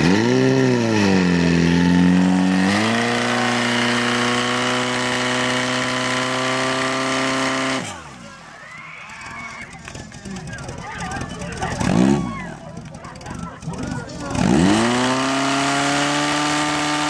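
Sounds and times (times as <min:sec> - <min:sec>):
pump engine running hard: 0:00.0 - 0:08.5, 0:09.2 - 0:17.0.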